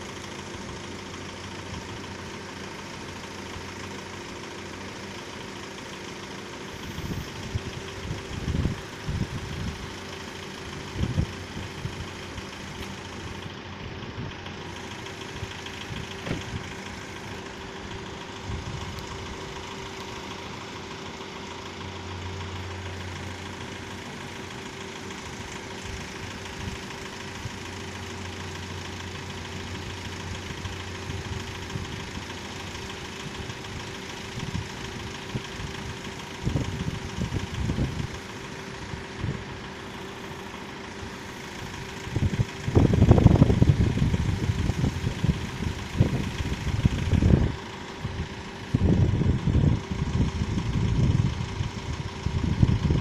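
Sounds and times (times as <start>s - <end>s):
car engines idling: 0.0s - 53.0s
deeper engine hum: 0.0s - 53.0s.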